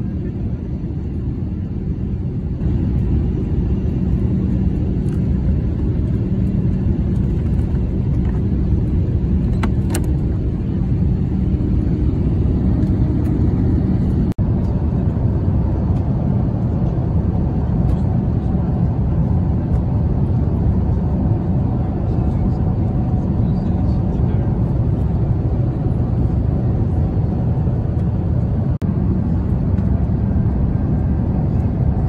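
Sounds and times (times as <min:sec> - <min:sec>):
airliner cabin rumble: 0:00.0 - 0:32.0.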